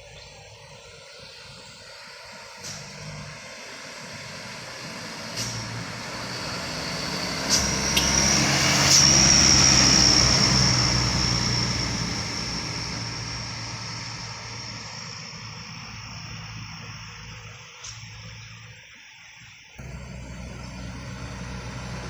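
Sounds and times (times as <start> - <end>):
heavy truck engine pulling uphill: 0.8 - 17.5, 19.8 - 22.0
steady high whistle: 1.3 - 22.0.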